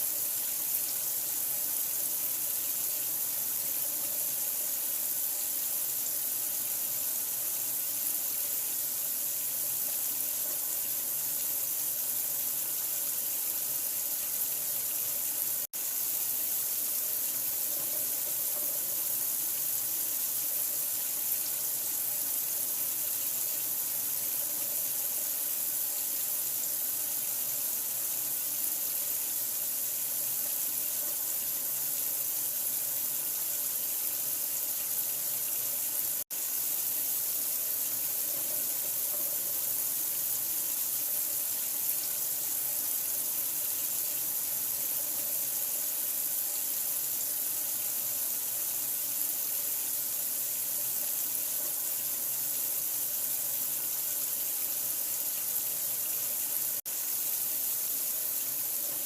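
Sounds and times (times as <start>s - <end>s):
running water hiss: 0.0s - 59.0s.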